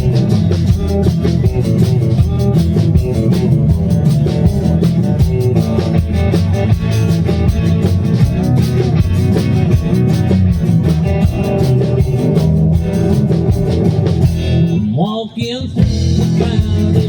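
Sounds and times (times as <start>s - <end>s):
country band playing live: 0.0s - 17.0s.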